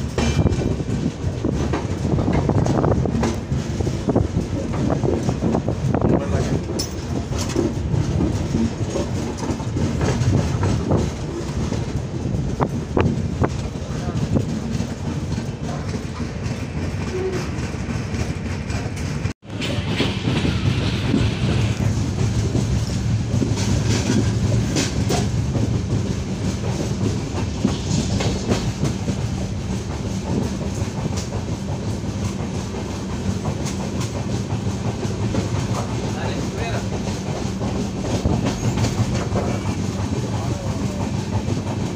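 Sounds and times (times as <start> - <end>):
rumble of wheels on rail: 0.0 - 41.9.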